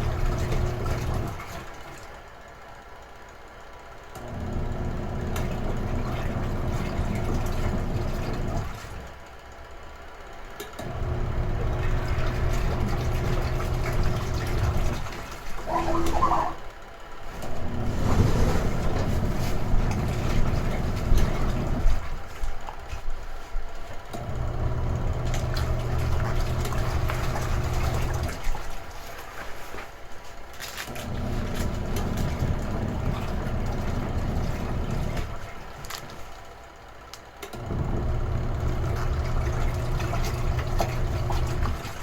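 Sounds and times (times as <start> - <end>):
washing machine motor humming: 0.0 - 42.0.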